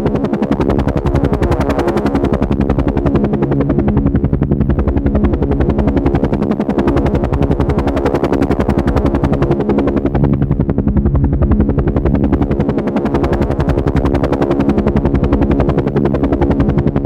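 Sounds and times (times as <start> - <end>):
helicopter engine hum: 0.0 - 17.0
helicopter rotor chopping: 0.0 - 17.0.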